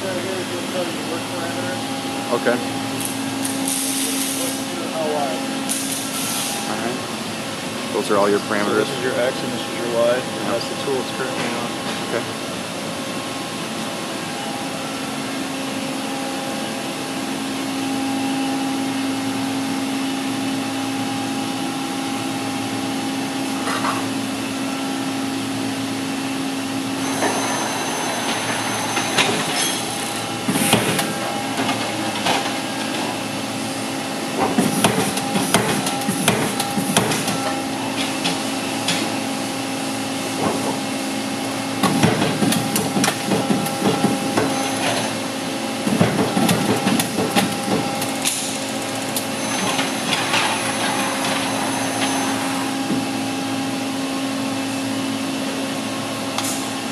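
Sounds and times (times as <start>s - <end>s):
machine hum: 0.0s - 56.8s.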